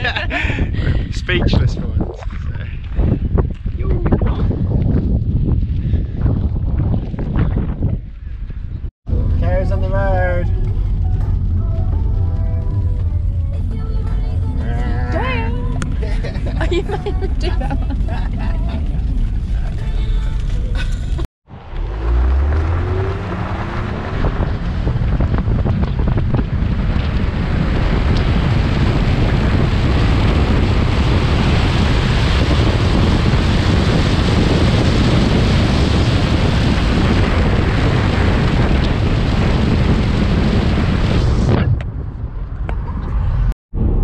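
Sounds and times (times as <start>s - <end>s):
wind buffeting microphone: 0.0s - 13.7s, 14.9s - 44.0s.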